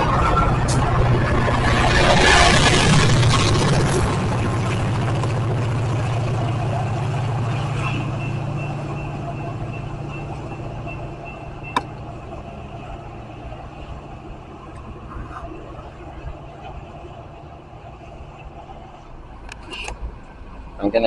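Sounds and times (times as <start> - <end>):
thin high whine: 0.0 - 19.0
diesel locomotive engine hum: 0.0 - 21.0.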